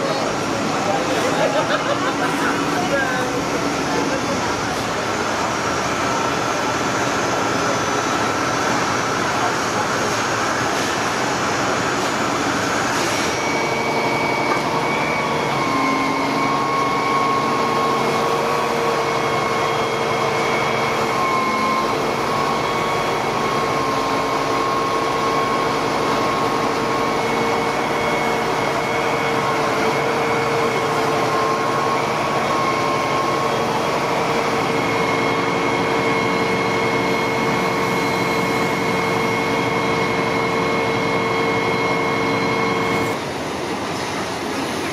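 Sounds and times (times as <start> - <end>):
truck engine drone with whine: 0.0 - 44.9.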